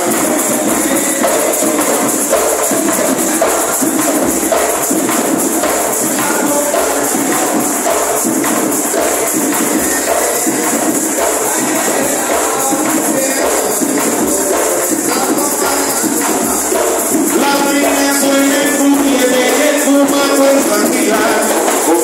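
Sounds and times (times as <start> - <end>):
hand drums playing: 0.0 - 22.0
shaking rattle: 0.0 - 22.0.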